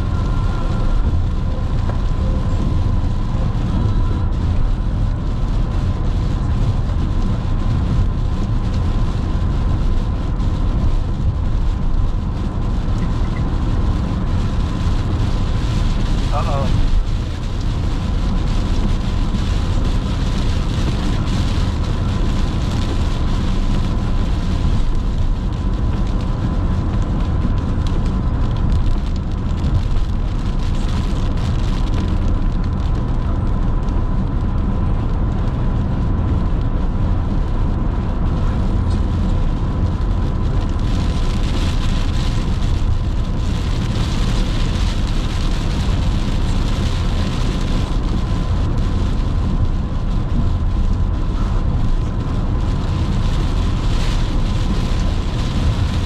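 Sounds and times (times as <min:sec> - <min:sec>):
rain and tyre spray hiss: 0:00.0 - 0:56.0
road and tyre rumble: 0:00.0 - 0:56.0.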